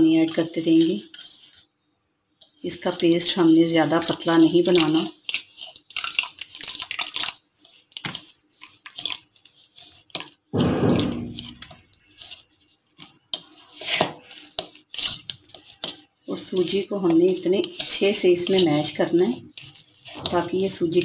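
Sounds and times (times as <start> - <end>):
metal spoon scraping a bowl: 0.0 - 1.7, 2.4 - 21.0.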